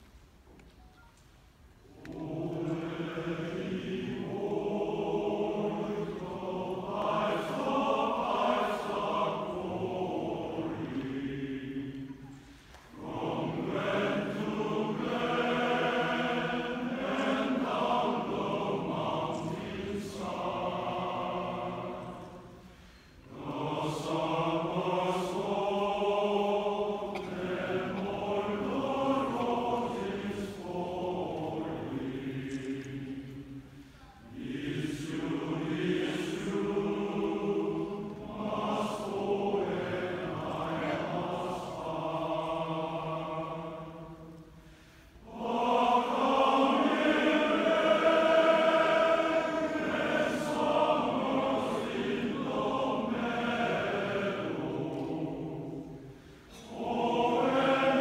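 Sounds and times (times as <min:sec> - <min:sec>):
mixed choir singing: 0:01.8 - 0:58.0.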